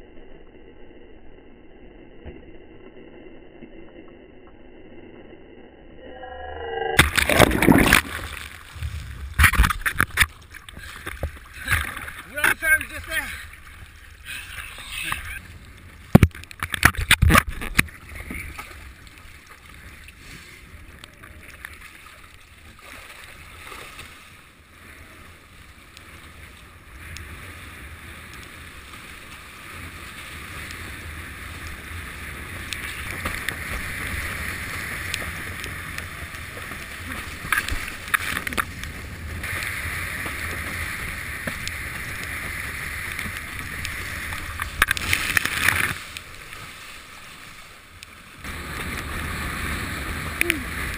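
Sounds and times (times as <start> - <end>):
wind: 0.0 - 50.9
water rushing and splashing: 7.0 - 50.9.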